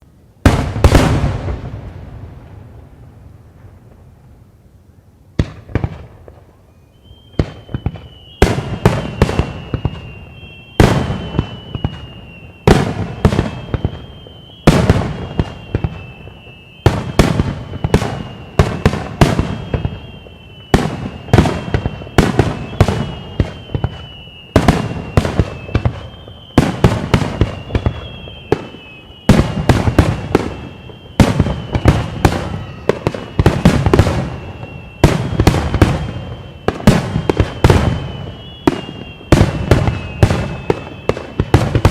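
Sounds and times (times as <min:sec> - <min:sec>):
high steady whistle tone: 0:06.5 - 0:41.9.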